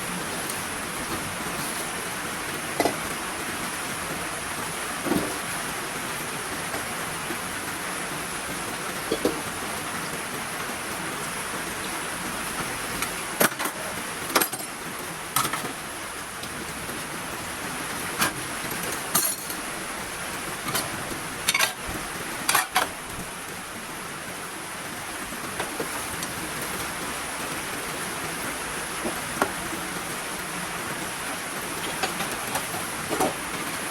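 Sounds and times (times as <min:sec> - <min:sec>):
heavy rain hissing: 0:00.0 - 0:33.9.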